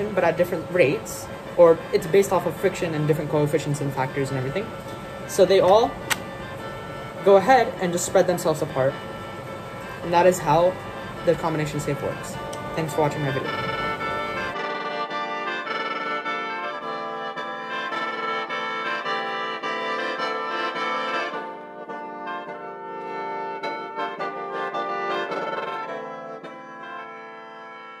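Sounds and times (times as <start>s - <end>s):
instrumental music with beat: 0.0s - 28.0s.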